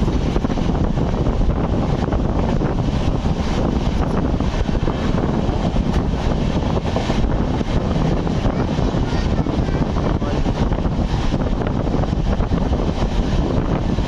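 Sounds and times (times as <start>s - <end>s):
train wheels on track: 0.0s - 14.0s
wind on microphone: 0.0s - 14.0s.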